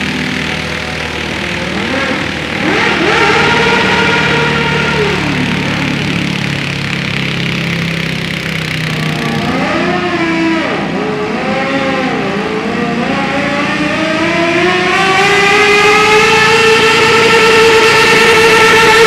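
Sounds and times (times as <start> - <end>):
tractor engine revving: 0.0 - 19.0.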